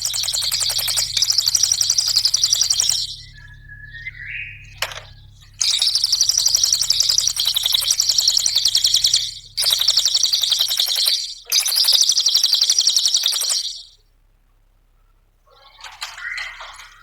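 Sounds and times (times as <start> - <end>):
bird chattering trill: 0.0 - 14.0, 15.5 - 17.0.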